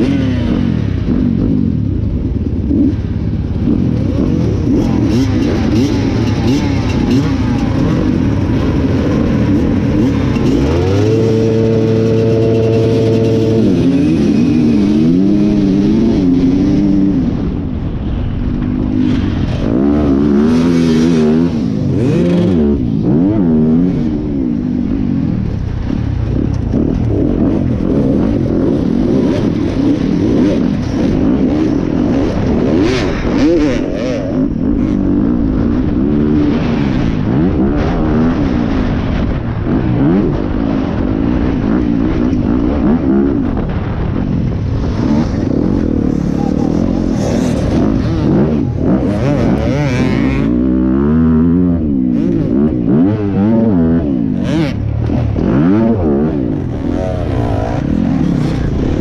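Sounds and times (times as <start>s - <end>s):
dirt bike engine revving: 0.0s - 17.9s, 18.5s - 59.0s.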